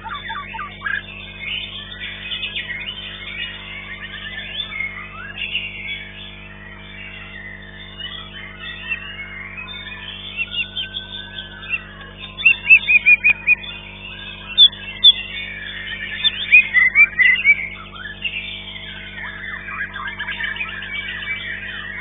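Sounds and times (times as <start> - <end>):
songbirds chattering: 0.0 - 5.7, 8.1 - 22.0
bird singing whistled notes: 0.0 - 22.0.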